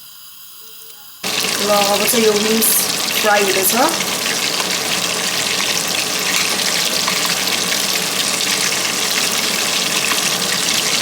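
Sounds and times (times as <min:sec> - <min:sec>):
chicken wings frying in oil: 0:00.0 - 0:11.0.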